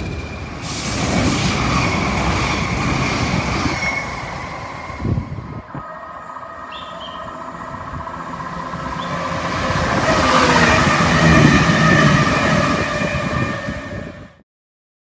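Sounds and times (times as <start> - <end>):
diesel train engine drone: 0.0 - 14.4.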